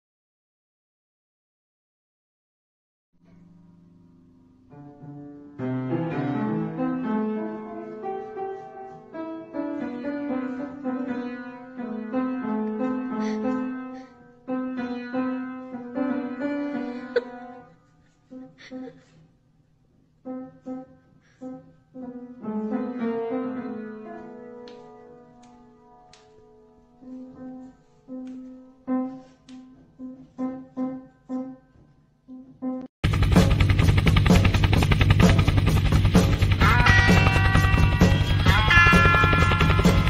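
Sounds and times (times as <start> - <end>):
piano notes: 3.2 - 17.7, 20.2 - 32.9, 34.7 - 40.0.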